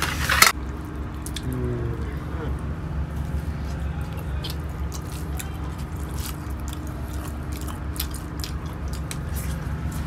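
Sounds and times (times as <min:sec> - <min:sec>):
steady low rumble: 0:00.4 - 0:10.0
wet eating sounds by hand: 0:00.5 - 0:10.0.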